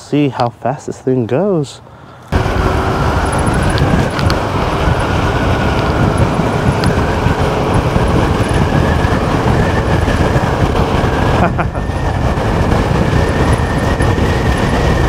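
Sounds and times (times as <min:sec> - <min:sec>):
road noise: 0:00.0 - 0:15.0
wind buffeting microphone: 0:02.3 - 0:15.0.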